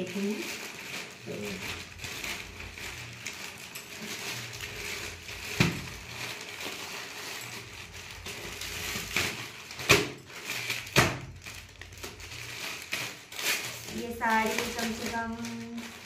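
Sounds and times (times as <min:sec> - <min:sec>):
plastic packaging rustling: 0:00.0 - 0:16.0
sharp plastic crackles: 0:00.0 - 0:16.0.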